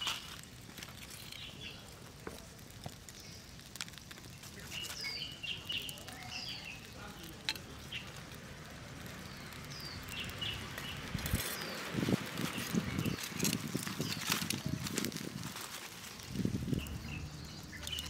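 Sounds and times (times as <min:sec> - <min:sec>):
birds chirping: 0:00.0 - 0:18.0
wood fire crackling and popping: 0:00.0 - 0:18.0.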